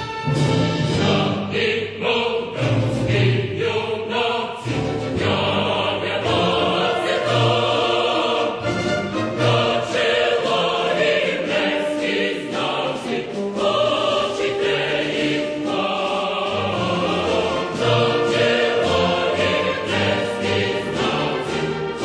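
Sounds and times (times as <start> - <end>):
choir singing held chords: 0.0 - 22.0.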